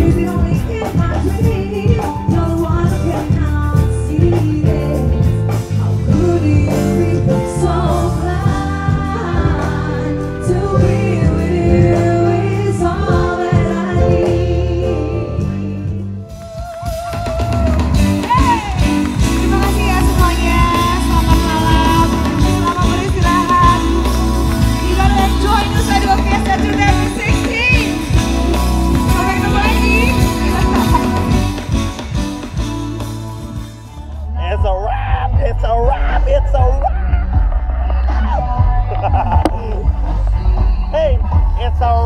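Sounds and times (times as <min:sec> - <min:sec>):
band music with lead vocal: 0:00.0 - 0:42.0.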